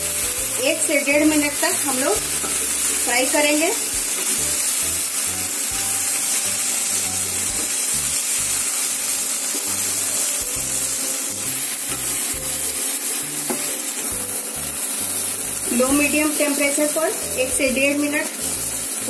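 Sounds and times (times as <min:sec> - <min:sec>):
food sizzling in oil: 0:00.0 - 0:19.0
spatula stirring in a pan: 0:01.3 - 0:19.0.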